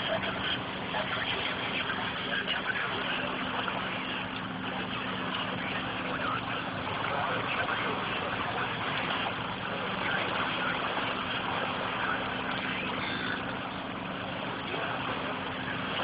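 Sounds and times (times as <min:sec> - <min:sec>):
boat engine humming: 0:00.0 - 0:16.0
rushing water noise: 0:00.0 - 0:16.0.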